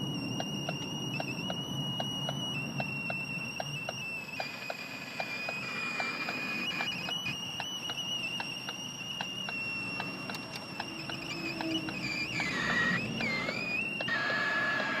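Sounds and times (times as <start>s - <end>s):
high-pitched electronic squeal: 0.0s - 15.0s
light regular ticking: 0.0s - 15.0s.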